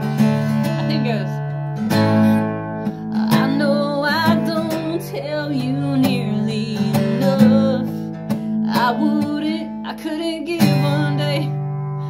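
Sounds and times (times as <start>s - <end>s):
woman singing: 0.0s - 11.7s
acoustic guitar strumming: 0.0s - 12.0s.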